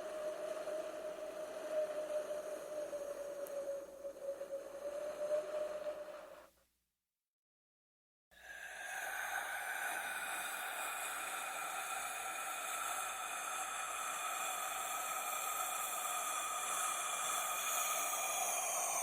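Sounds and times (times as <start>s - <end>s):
ghostly breathy hiss: 0.0s - 6.5s, 8.4s - 19.0s.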